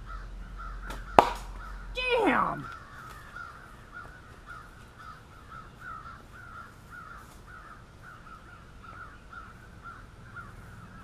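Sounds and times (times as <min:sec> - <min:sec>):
animal calling rhythmically: 0:00.0 - 0:11.0.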